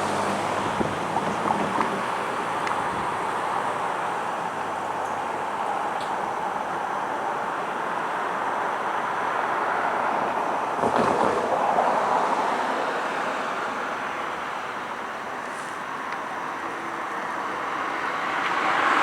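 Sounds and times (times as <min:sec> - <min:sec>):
vehicle tyre noise: 0:00.0 - 0:19.0.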